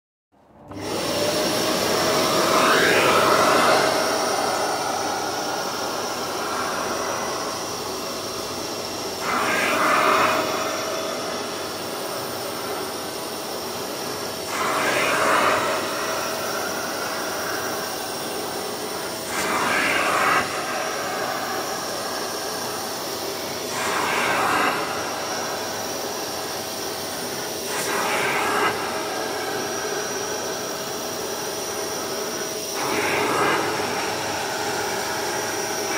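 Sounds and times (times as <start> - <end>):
carpet cleaner motor whine: 0.4 - 35.9
rushing suction of nozzle: 0.7 - 35.9.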